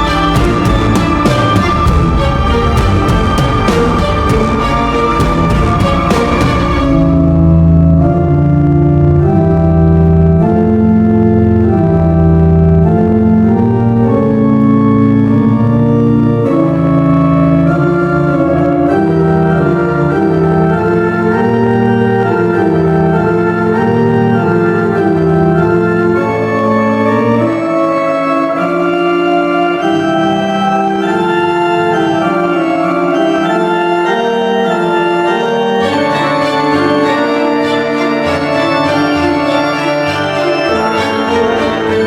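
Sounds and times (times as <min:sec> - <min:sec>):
organ-like keyboard music: 0:00.0 - 0:42.0.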